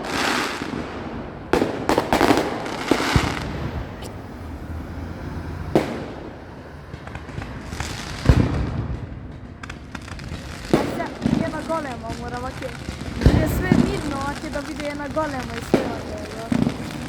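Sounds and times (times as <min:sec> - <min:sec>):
firework crackles: 0:00.0 - 0:17.0
firework shells bursting: 0:00.0 - 0:17.0
low rumble: 0:00.6 - 0:17.0.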